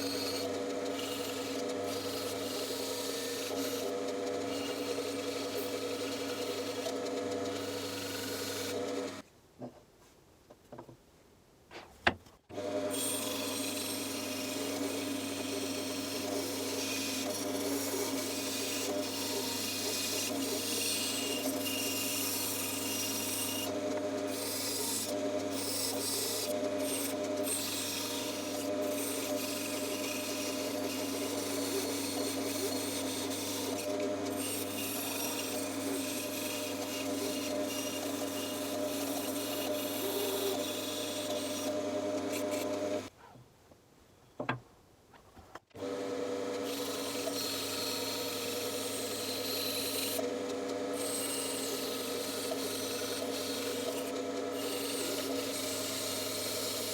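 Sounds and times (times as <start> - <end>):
bandsaw blade cutting wood: 0.0 - 9.2, 12.5 - 43.1, 45.8 - 56.9
bandsaw motor hum: 0.0 - 9.2, 12.5 - 43.1, 45.8 - 56.9.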